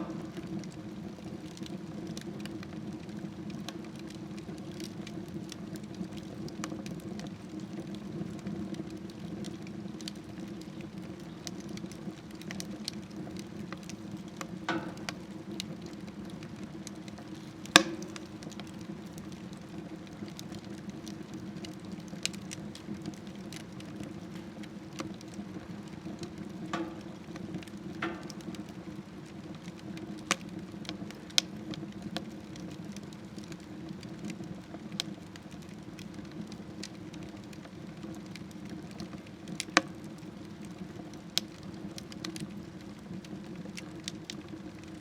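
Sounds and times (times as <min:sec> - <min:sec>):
low fire rumble: 0:00.0 - 0:45.0
wood fire crackling and popping: 0:00.0 - 0:45.0.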